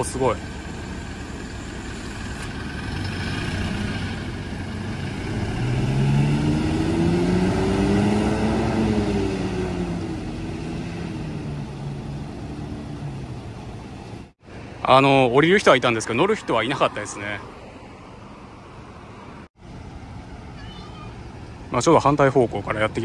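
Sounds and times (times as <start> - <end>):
diesel bus accelerating: 0.0 - 23.0
street traffic: 0.0 - 23.0.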